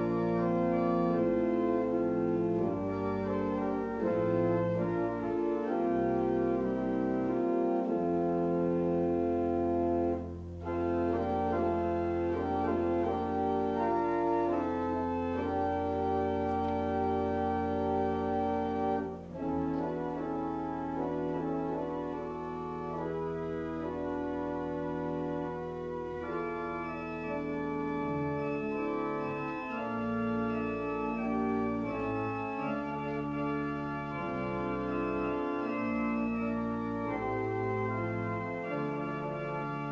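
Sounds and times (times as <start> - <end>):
church organ chords: 0.0 - 39.9.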